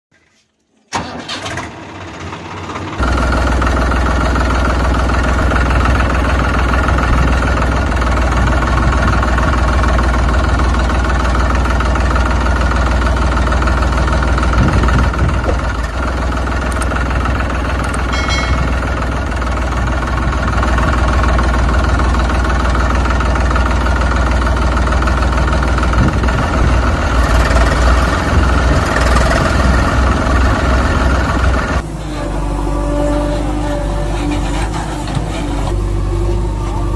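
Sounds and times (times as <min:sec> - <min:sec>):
tractor engine running: 0:00.9 - 0:36.9.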